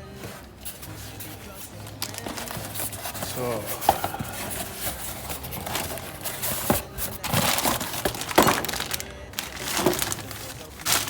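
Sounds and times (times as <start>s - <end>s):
packaging crinkling and rustling: 0.6s - 11.0s.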